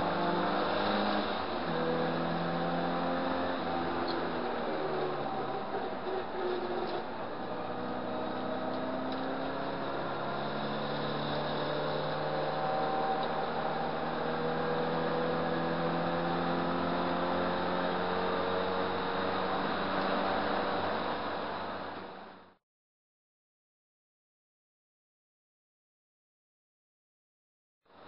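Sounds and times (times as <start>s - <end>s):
car engine accelerating: 0.0s - 22.6s
road noise: 0.0s - 22.6s.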